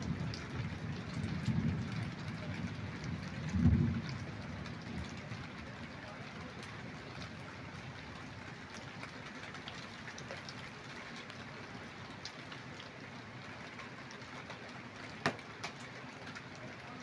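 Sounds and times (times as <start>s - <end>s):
raindrops ticking on surfaces: 0.0s - 17.0s
steady rain: 0.0s - 17.0s.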